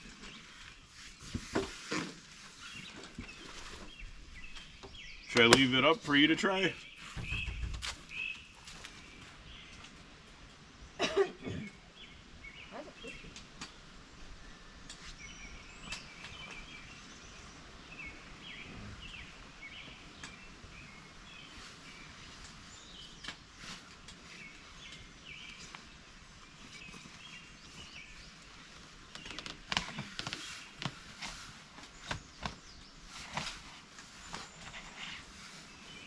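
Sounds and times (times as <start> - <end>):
outdoor hush: 0.0 - 36.0
small birds chirping: 0.0 - 36.0.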